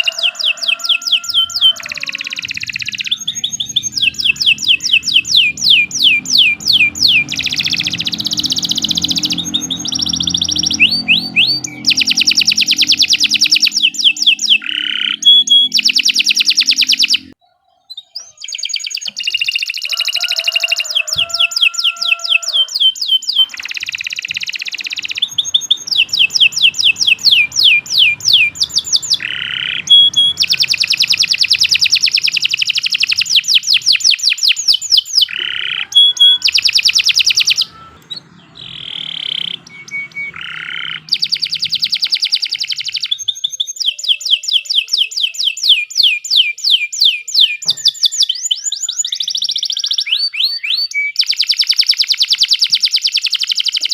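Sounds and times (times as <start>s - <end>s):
canary singing: 0.0s - 53.9s.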